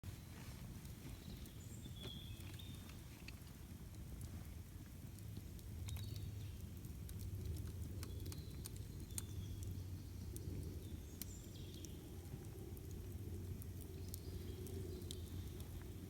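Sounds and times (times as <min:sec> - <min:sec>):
campfire crackling and popping: 0:00.1 - 0:16.0
low steady rumble: 0:00.1 - 0:16.0.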